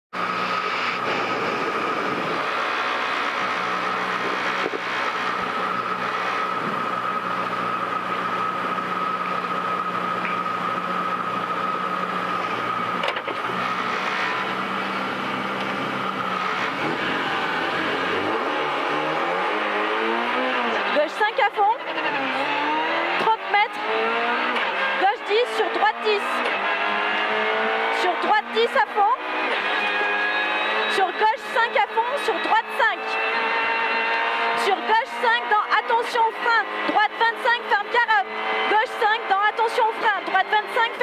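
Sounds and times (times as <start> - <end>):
car engine running: 0.1 - 41.0.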